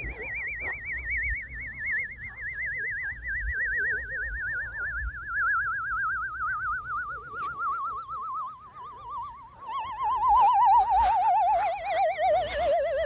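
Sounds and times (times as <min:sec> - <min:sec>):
warbling whistle-like tone: 0:00.0 - 0:13.0.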